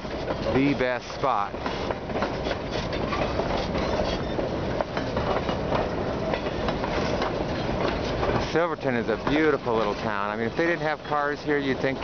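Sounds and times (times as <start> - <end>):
clicks and knocks of wheels: 0.0 - 10.8
train wheels rumbling on rails: 0.0 - 12.0.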